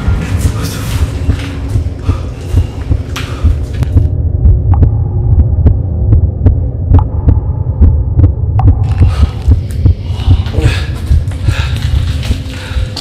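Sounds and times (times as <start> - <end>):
low throbbing rumble: 0.0 - 13.0.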